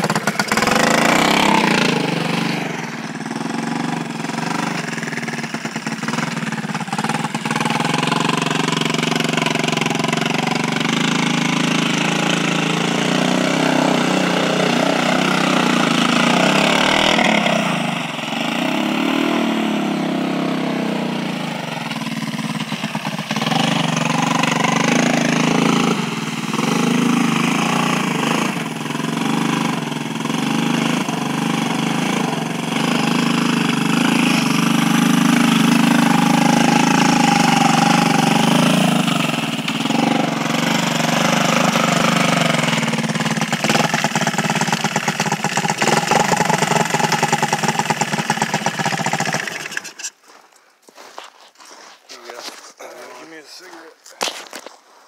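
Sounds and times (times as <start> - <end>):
wheels churning through slush: 0.0 - 19.6, 21.5 - 50.1
atv engine revving: 0.0 - 50.2.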